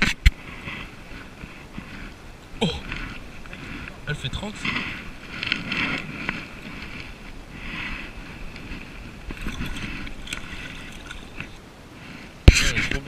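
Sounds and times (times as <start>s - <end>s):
water splashing and lapping: 0.0s - 12.8s
wind rumble on microphone: 0.0s - 13.0s.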